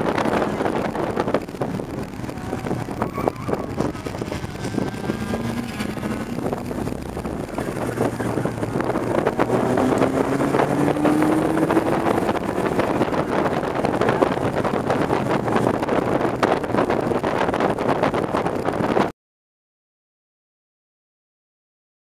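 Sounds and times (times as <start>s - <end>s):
car engine accelerating: 0.0s - 19.1s
road noise: 0.0s - 19.1s
wind noise: 0.0s - 19.1s.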